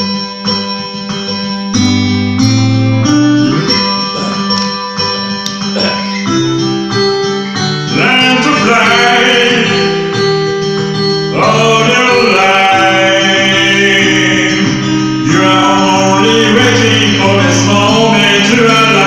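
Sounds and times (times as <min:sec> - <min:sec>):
acoustic guitar: 0:00.0 - 0:19.0
person singing: 0:03.4 - 0:19.0.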